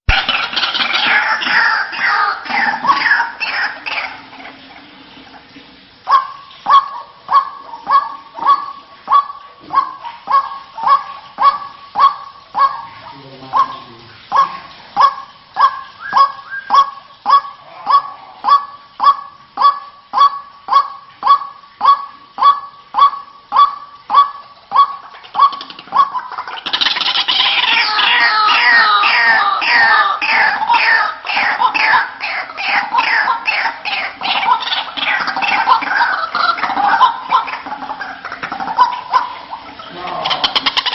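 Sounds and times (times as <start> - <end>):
waterhen honking calls: 0.1 - 40.9.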